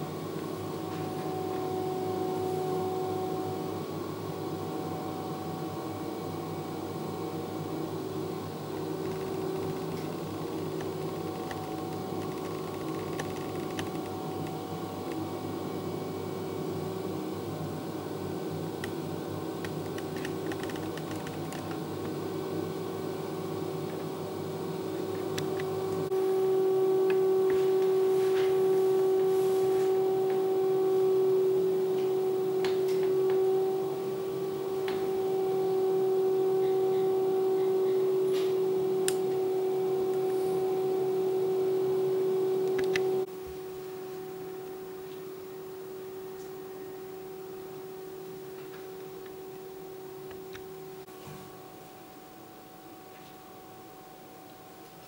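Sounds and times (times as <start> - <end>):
machine hum with held tone: 0.0 - 55.0.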